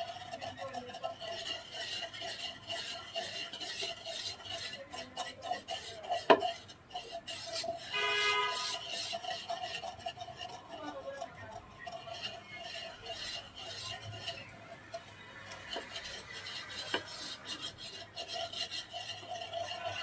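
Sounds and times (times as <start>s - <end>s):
pestle grinding in wooden mortar: 0.0s - 20.0s.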